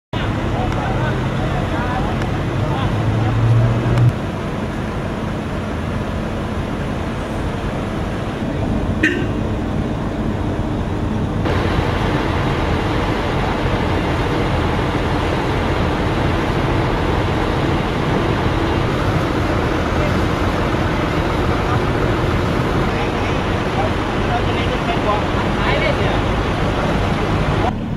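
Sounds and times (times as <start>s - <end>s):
traffic and running engines: 0.1s - 27.9s.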